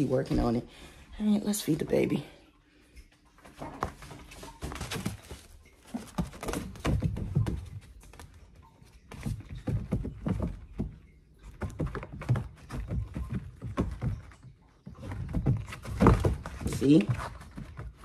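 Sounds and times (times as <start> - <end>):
puppy pawing at plastic panels: 3.5 - 18.0.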